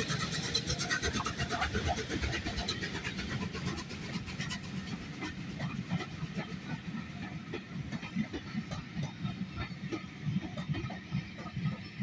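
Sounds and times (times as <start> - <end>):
steam locomotive hiss: 0.0 - 12.0.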